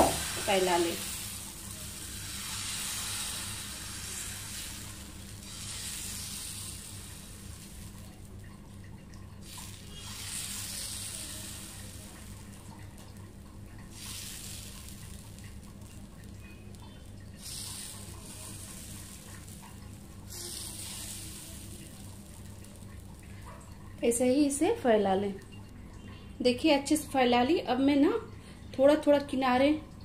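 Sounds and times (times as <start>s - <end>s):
batter sizzling on a hot pan: 0.0s - 25.8s
faint low hum: 3.2s - 30.0s.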